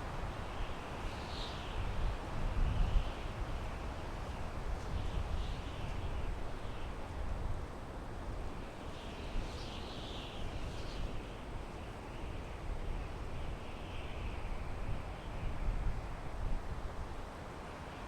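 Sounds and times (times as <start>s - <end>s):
wind through pine trees: 0.0s - 18.0s.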